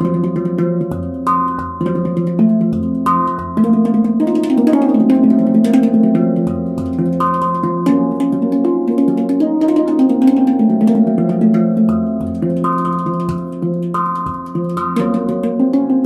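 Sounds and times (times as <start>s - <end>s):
handpan notes played with fingers: 0.0s - 16.0s.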